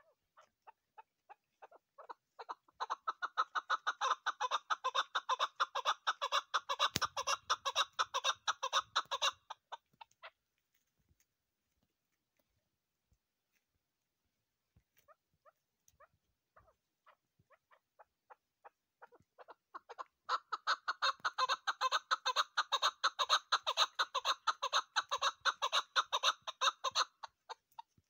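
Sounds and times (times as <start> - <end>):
partridge clucking calls: 0.4 - 10.4, 15.0 - 28.0.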